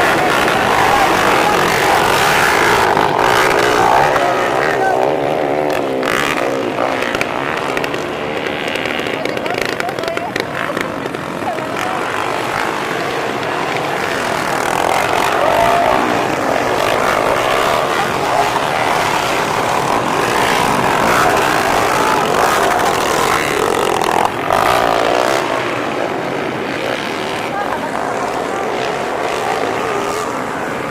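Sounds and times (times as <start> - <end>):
motorcycles racing at high revs: 0.0 - 30.9.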